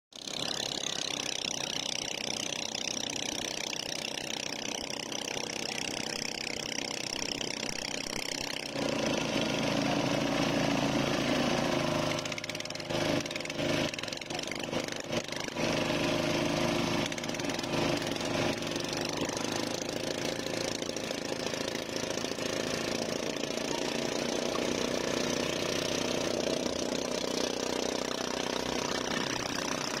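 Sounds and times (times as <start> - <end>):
outboard motor running: 0.1 - 30.0.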